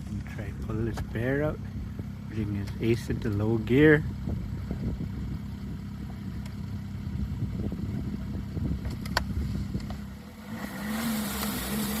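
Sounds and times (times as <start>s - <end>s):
snowmobile engine at low revs: 0.0s - 12.0s.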